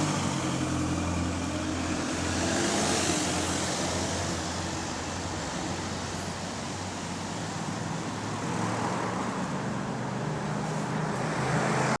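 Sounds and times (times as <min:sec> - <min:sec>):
bus engine running: 0:00.0 - 0:12.0
road noise: 0:00.0 - 0:12.0.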